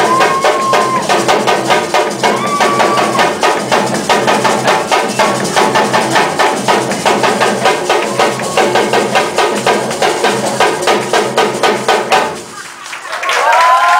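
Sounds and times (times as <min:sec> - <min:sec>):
drum ensemble playing fast beat: 0:00.0 - 0:12.9.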